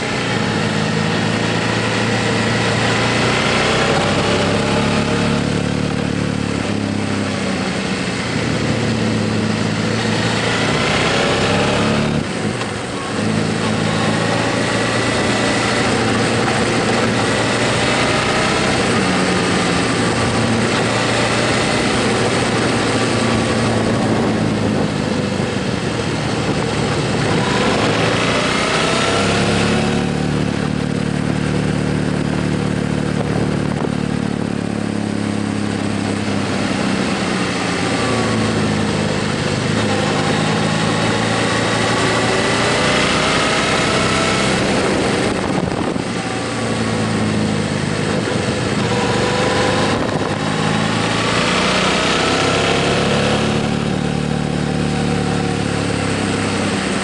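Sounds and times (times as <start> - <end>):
motorcycle engine: 0.0 - 57.0
wind noise: 0.0 - 57.0.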